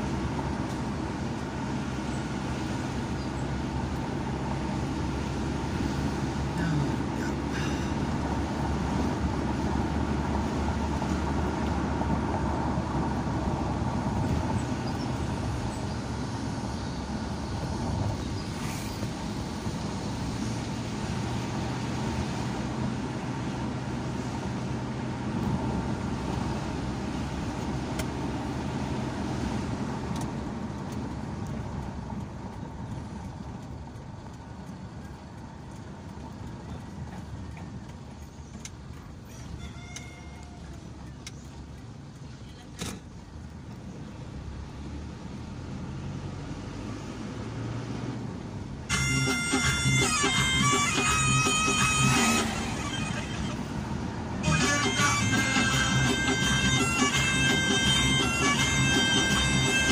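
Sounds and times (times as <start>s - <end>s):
car engine and tyre hum: 0.0s - 59.9s.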